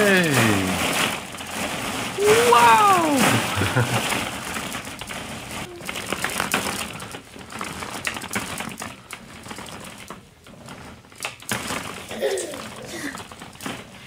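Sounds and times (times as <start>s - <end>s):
plastic balls clattering: 0.0s - 14.0s.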